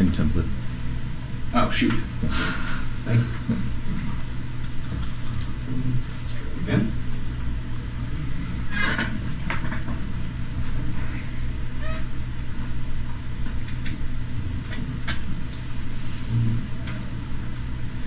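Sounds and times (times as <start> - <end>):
low room rumble: 0.0 - 18.0.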